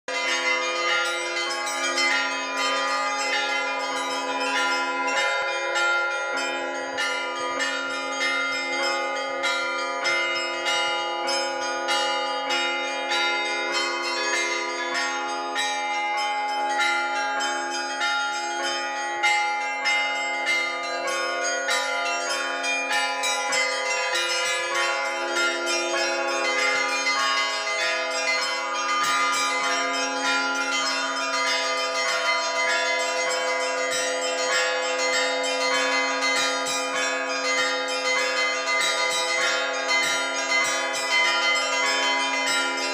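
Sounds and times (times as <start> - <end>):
church bells pealing: 0.1 - 42.9.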